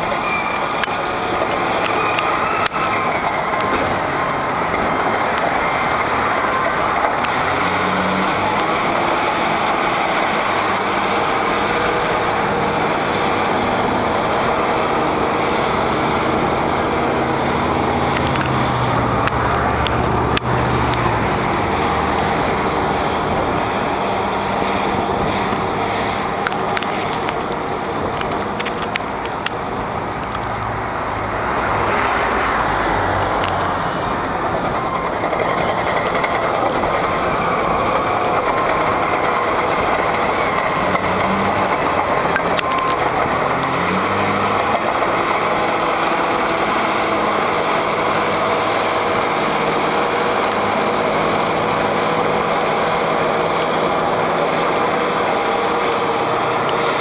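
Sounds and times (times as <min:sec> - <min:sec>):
bulldozer diesel engine working hard: 0:00.0 - 0:57.0
steel tracks clanking: 0:00.0 - 0:57.0.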